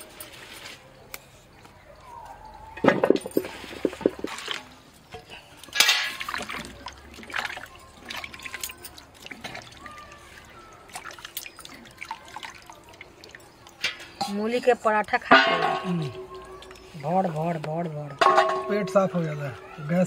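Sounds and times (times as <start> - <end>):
water splashing and dripping: 2.8 - 19.9.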